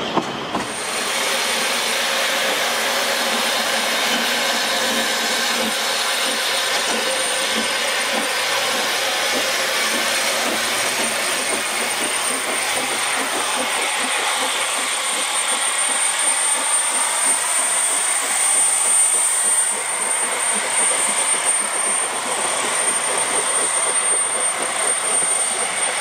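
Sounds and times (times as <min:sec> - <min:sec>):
steam locomotive chuffs: 0:00.0 - 0:26.0
steam hissing: 0:00.6 - 0:26.0.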